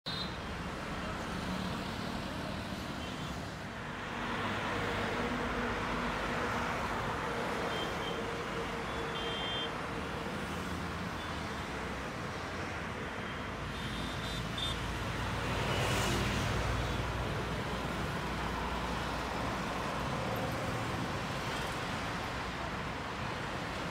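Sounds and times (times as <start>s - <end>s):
highway traffic rushing: 0.0s - 23.9s.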